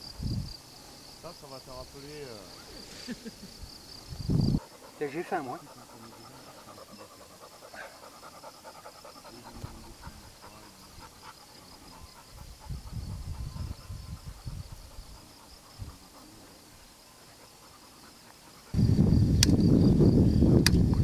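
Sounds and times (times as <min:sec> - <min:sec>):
high insect trill: 0:00.0 - 0:21.0.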